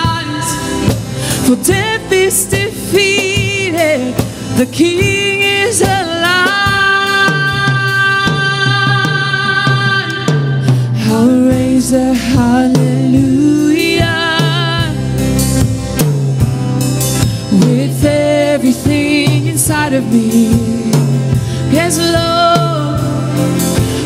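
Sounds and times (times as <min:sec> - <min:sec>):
woman singing lead: 0:00.0 - 0:15.4, 0:17.3 - 0:24.0
acoustic guitar: 0:00.0 - 0:24.0
drum kit: 0:00.0 - 0:24.0
keyboard: 0:00.0 - 0:24.0.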